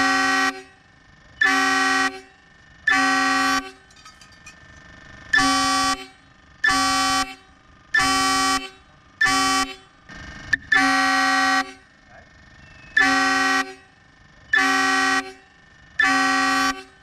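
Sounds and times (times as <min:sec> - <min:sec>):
air horn blasts: 0:00.0 - 0:03.9, 0:05.3 - 0:10.0, 0:10.6 - 0:12.0, 0:13.0 - 0:17.0.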